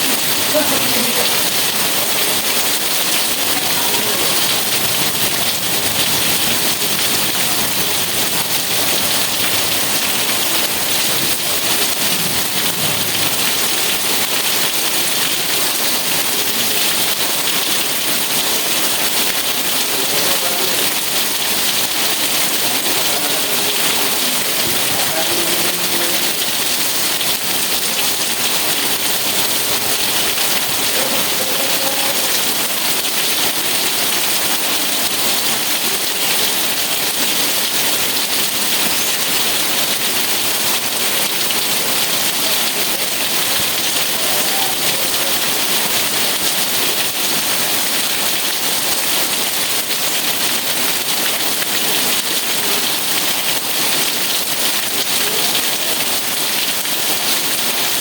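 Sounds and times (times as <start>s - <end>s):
rain falling on a surface: 0.0s - 58.0s.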